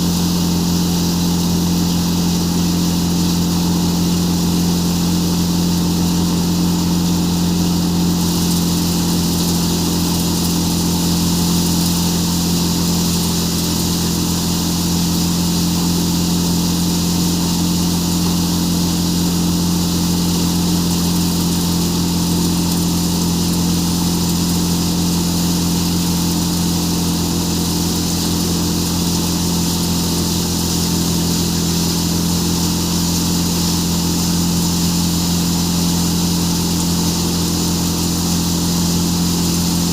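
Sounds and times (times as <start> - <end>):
threshing machine droning: 0.0 - 39.9.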